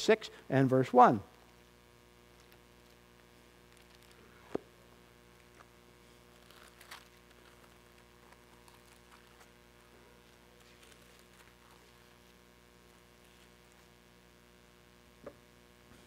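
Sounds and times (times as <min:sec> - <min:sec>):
mains hum: 0:00.0 - 0:16.0.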